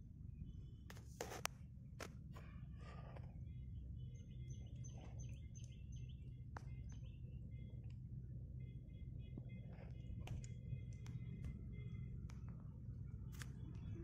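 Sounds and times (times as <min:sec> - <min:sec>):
steady low rumble: 0:00.0 - 0:14.0
small birds chirping: 0:02.4 - 0:14.0.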